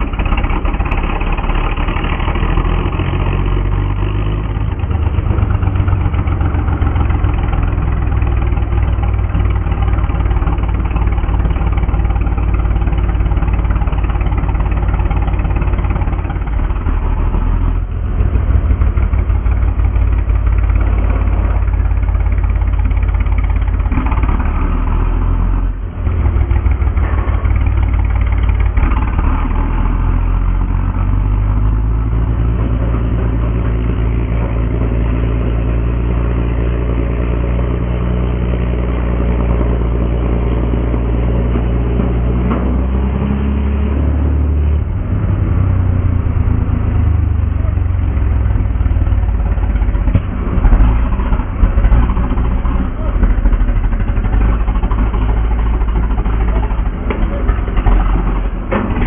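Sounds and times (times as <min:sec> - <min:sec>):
tank engine running under load: 0:00.0 - 0:59.0.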